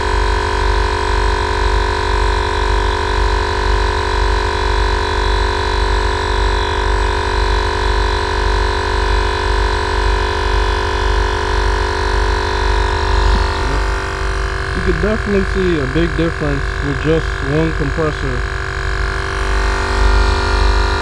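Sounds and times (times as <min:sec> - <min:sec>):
air compressor running: 0:04.2 - 0:21.0.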